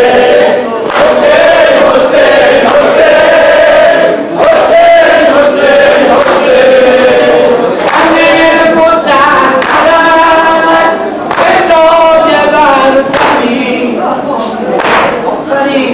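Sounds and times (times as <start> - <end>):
men chanting in unison: 0.0 - 14.3.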